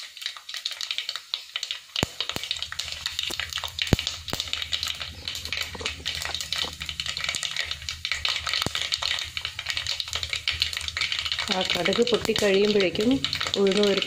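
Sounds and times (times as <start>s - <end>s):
mustard seeds popping in oil: 0.0s - 14.0s.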